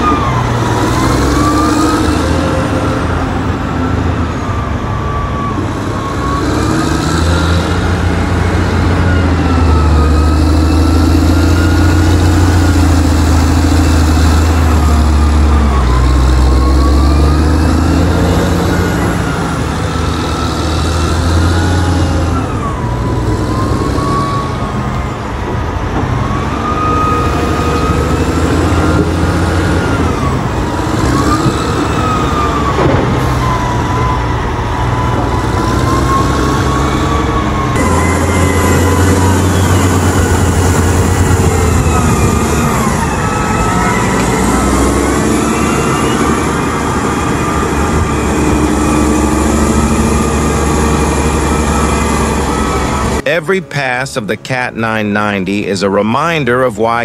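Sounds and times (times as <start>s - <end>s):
wheel loader diesel engine: 0.0s - 57.0s.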